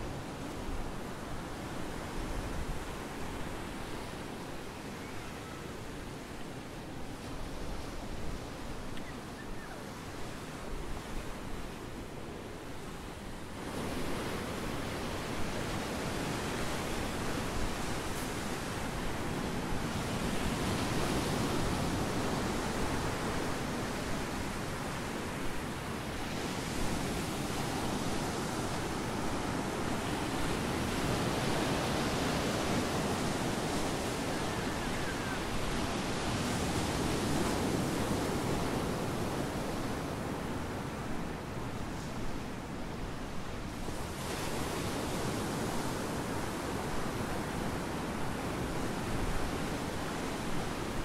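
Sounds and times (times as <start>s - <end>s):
small waves breaking on beach: 0.0s - 51.0s.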